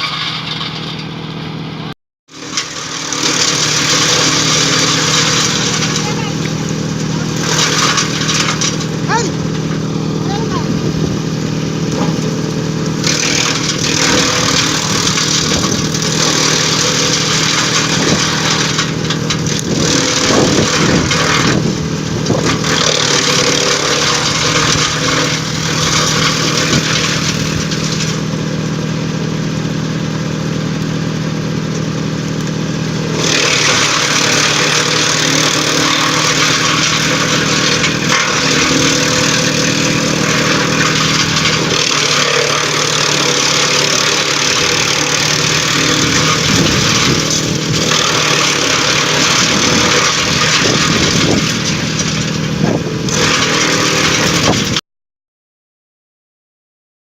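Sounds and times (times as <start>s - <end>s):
blades grinding branches: 0.0s - 54.8s
shredder humming: 0.0s - 54.8s.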